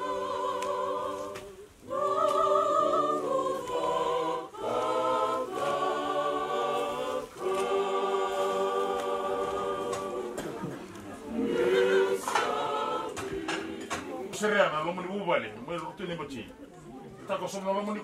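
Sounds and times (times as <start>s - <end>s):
choir singing held chords: 0.0s - 14.8s.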